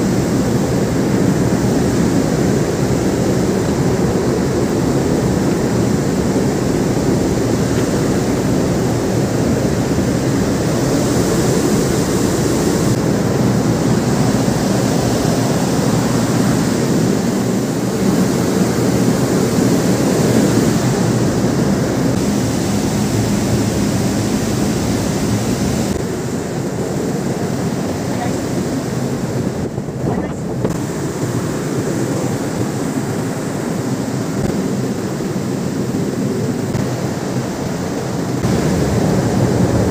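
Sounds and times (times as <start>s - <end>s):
rushing wind: 0.0s - 39.9s.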